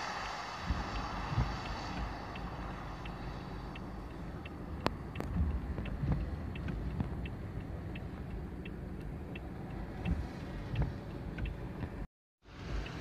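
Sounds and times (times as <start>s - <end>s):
faint high ticks: 0.2s - 12.0s.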